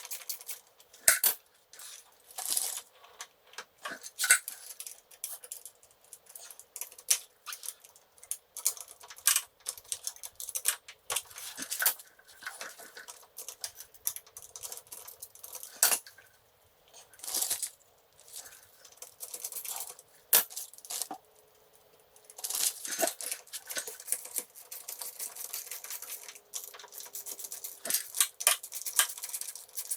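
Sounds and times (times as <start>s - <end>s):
metal tools clicking and clinking: 0.0s - 2.8s, 3.9s - 16.2s, 17.2s - 21.2s, 22.1s - 29.9s.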